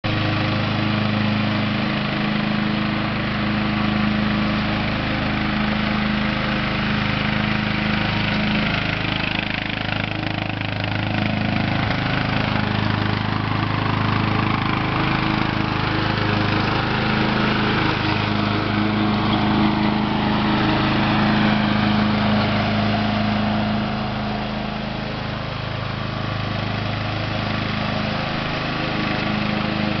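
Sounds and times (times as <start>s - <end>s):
riding lawn mower engine: 0.0s - 30.0s.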